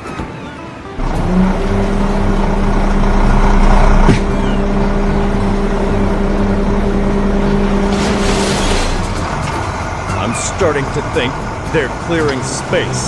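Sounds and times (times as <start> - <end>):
construction machine engine running: 1.0 - 13.0.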